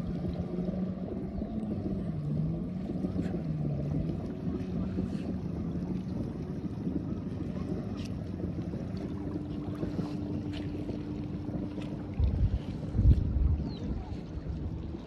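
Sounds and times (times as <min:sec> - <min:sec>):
motorboat engine droning: 0:00.0 - 0:15.0
wind rumbling on microphone: 0:00.0 - 0:15.0.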